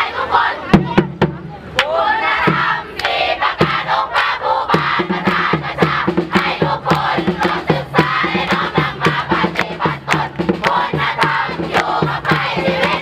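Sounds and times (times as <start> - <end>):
crowd shouting and chanting: 0.0 - 13.0
fast steady drumbeat: 0.6 - 1.5, 2.4 - 13.0.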